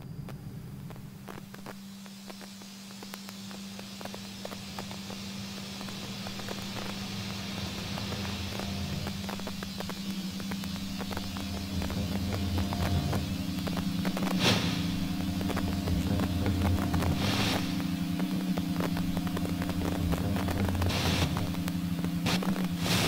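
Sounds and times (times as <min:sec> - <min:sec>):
hiss: 0:00.0 - 0:23.0
low hum: 0:00.0 - 0:23.0.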